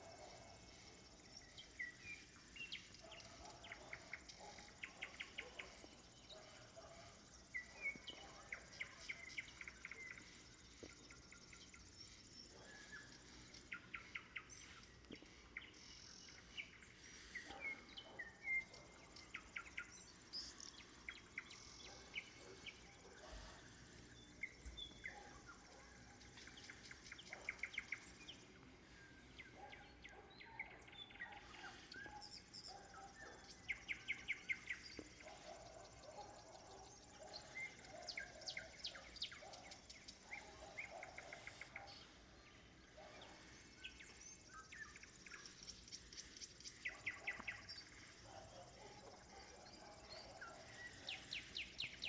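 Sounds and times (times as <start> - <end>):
faint bird chirps: 0.0 - 52.0
nightingale singing: 0.0 - 52.0.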